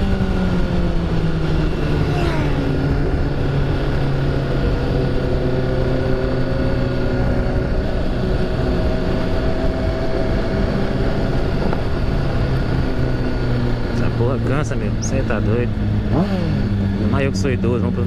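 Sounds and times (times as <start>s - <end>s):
wind rushing over microphone: 0.0s - 17.6s
motorcycle engine running: 0.0s - 18.0s.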